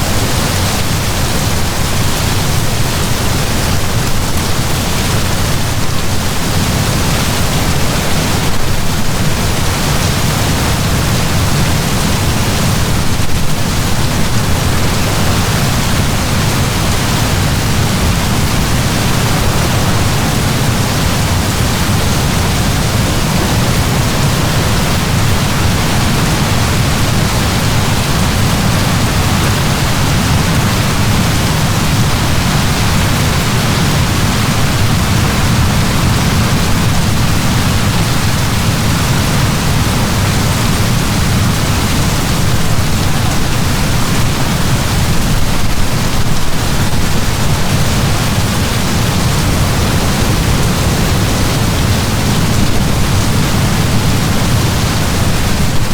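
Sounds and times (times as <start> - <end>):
heavy rain downpour: 0.0 - 55.9.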